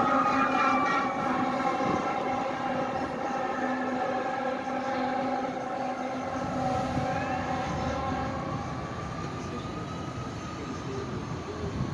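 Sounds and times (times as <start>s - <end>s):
fire truck air horn: 0.0s - 9.6s
siren rising: 0.0s - 11.0s
low city rumble: 0.0s - 11.9s.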